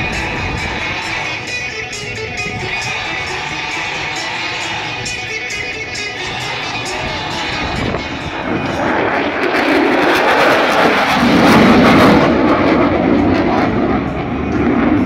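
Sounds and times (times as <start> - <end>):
military aircraft flying past: 0.0 - 15.0.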